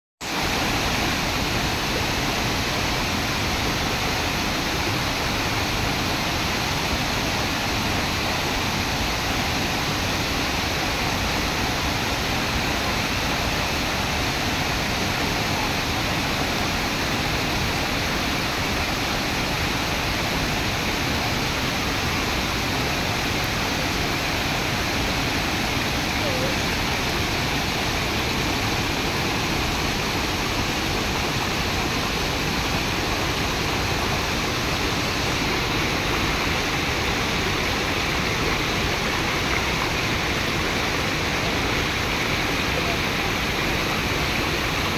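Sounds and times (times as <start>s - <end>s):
water rushing over rocks: 0.2s - 44.9s.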